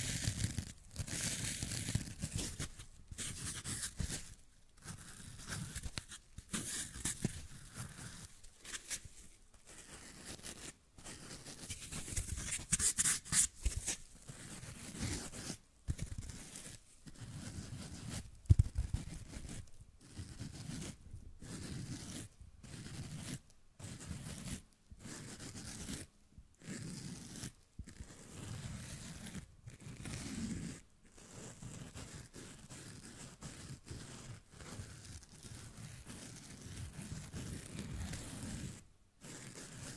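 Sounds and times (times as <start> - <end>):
fingernails scratching foam sponge: 0.0 - 39.9.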